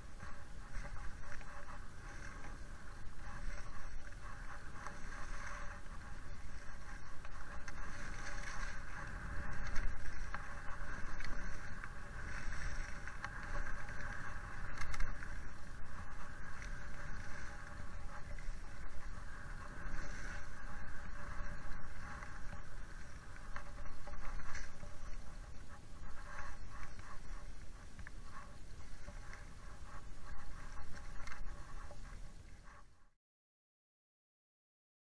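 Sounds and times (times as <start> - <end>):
skis scraping on snow: 0.0 - 32.9
wind rumbling on microphone: 0.0 - 33.1.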